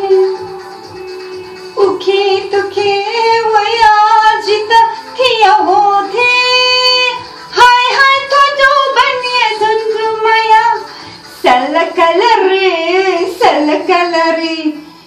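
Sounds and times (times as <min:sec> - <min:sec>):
woman singing: 0:00.0 - 0:01.0, 0:01.7 - 0:14.9.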